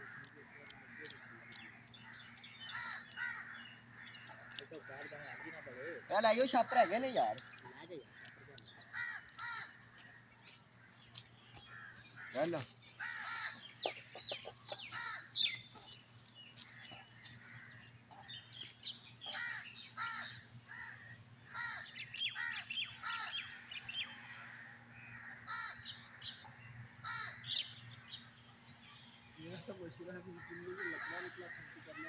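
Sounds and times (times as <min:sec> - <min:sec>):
crows cawing: 0:00.0 - 0:10.3, 0:11.6 - 0:15.6, 0:16.6 - 0:18.4, 0:19.2 - 0:26.4, 0:27.0 - 0:27.8, 0:30.3 - 0:32.0
birds chirping: 0:00.0 - 0:32.0.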